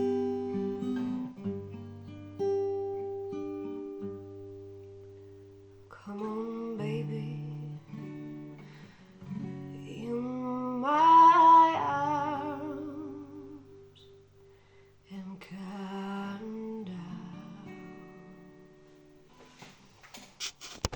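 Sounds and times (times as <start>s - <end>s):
acoustic guitar playing: 0.0s - 19.7s.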